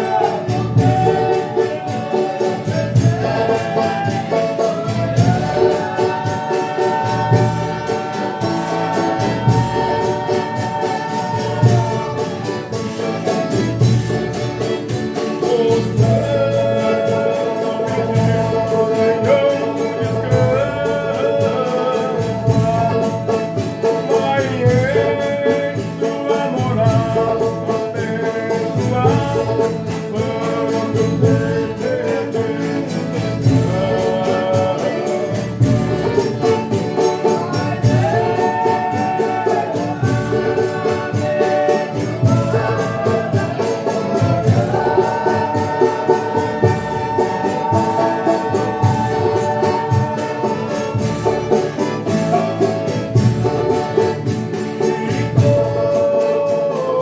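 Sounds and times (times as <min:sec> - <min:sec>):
group of voices singing: 0:00.0 - 0:57.0
steady percussion beat: 0:00.0 - 0:57.0.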